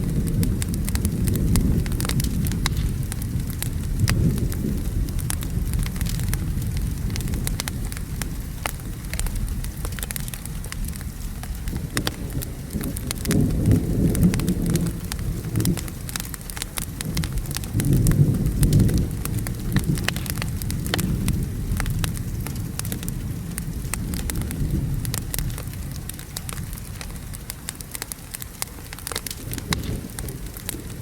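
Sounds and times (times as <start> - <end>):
thunder rumble: 0.0 - 27.4, 29.0 - 31.0
steady rain: 0.0 - 31.0
wood fire crackling and popping: 0.0 - 31.0.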